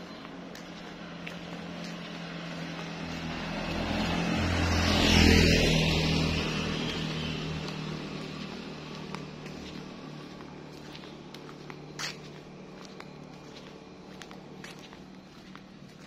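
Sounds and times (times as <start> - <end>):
motorcycle passing by: 0.0 - 16.0.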